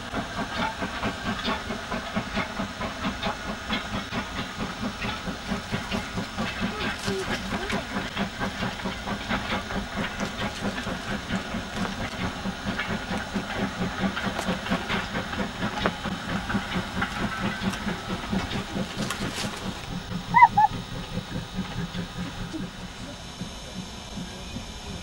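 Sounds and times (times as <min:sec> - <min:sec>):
steam locomotive exhaust chuffing: 0:00.0 - 0:25.0.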